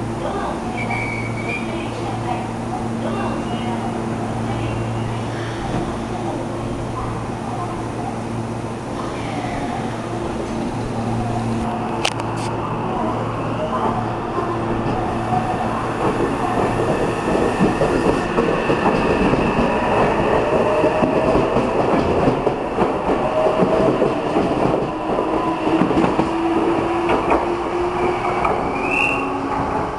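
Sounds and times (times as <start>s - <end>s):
train rumbling past: 0.0s - 29.9s.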